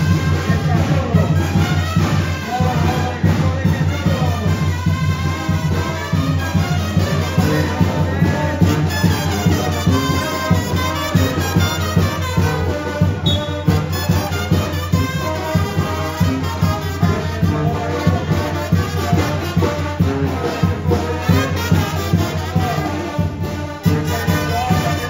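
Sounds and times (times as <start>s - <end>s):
latin music with brass: 0.0s - 25.0s.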